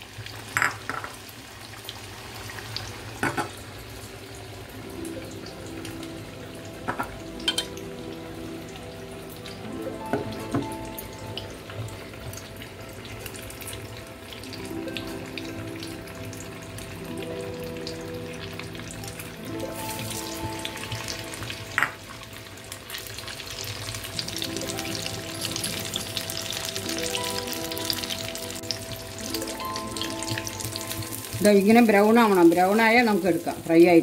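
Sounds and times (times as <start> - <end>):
food sizzling in hot oil: 0.0 - 34.0
soft background music: 1.6 - 34.0.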